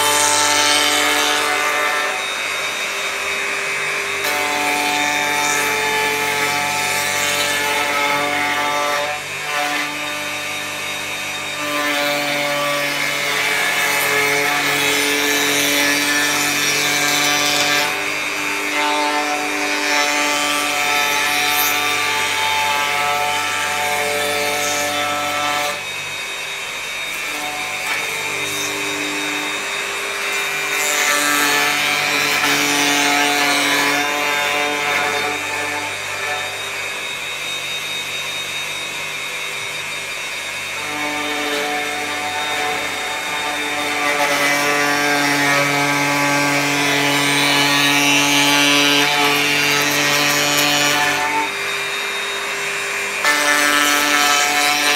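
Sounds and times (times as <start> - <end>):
electric planer shaving wood: 0.0 - 54.9.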